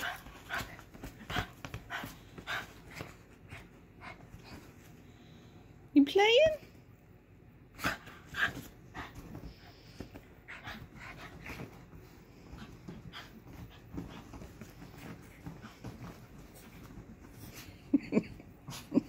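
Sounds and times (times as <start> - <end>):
small dogs play-fighting: 0.0 - 5.1, 7.6 - 19.0.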